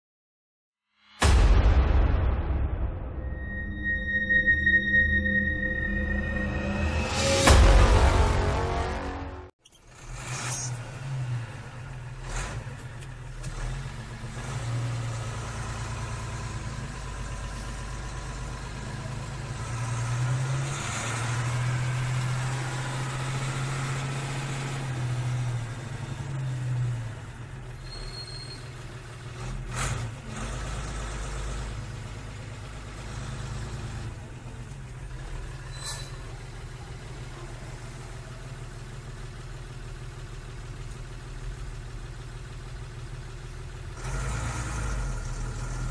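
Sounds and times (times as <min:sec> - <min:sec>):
vehicle engine running: 0:06.6 - 0:45.9.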